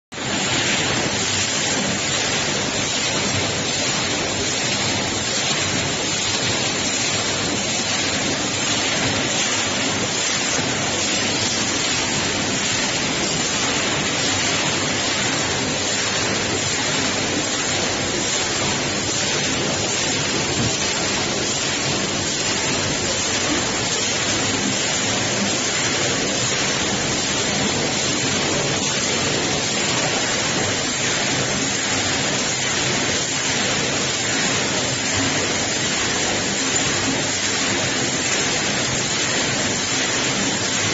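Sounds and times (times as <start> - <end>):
bagging machine running: 0.1 - 40.9.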